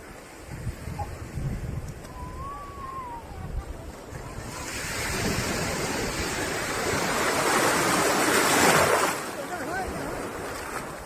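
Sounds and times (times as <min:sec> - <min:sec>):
ocean waves breaking: 0:00.0 - 0:11.0
wind rumbling on microphone: 0:00.0 - 0:11.0.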